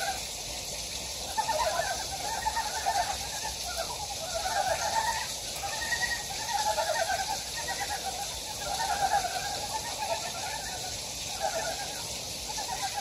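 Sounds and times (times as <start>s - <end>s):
frogs croaking: 0.0s - 13.0s
steady hiss: 0.0s - 13.0s.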